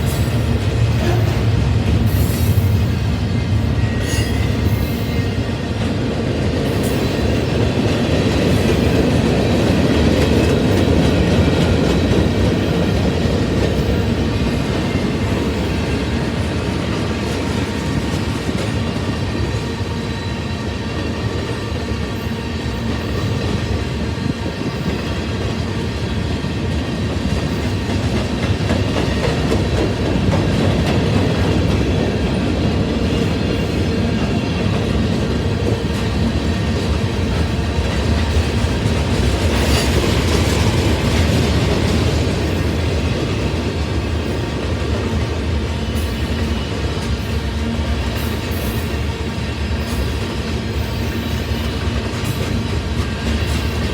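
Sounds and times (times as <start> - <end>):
freight train cars rolling past: 0.0 - 53.9
steel wheels on rails: 0.0 - 53.9.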